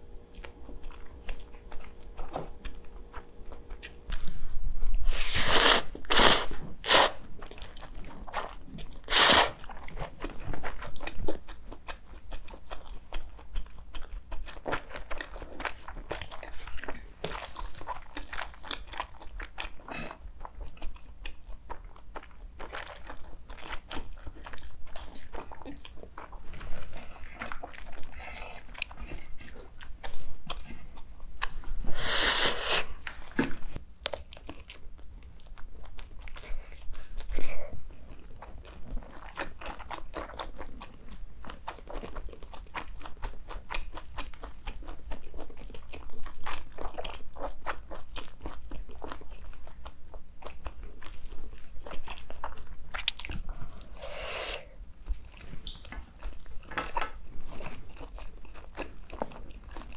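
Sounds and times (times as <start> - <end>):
person chewing food: 0.1 - 59.9.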